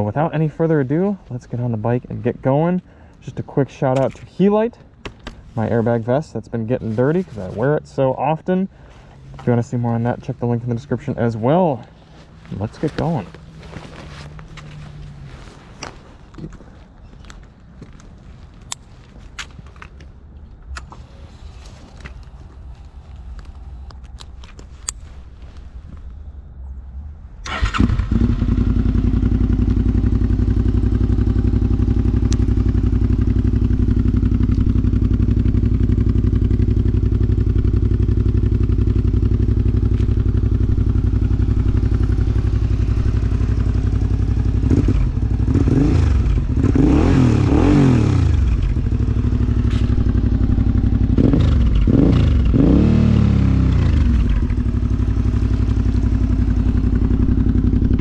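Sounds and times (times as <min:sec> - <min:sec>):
motorcycle engine idling and revving: 0:00.0 - 0:18.0, 0:25.8 - 0:58.0.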